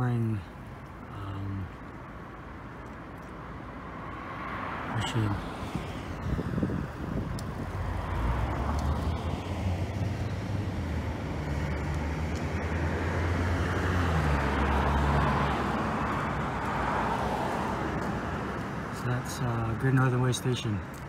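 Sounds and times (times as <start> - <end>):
traffic noise: 0.0 - 21.0
vehicle engine humming: 0.0 - 21.0.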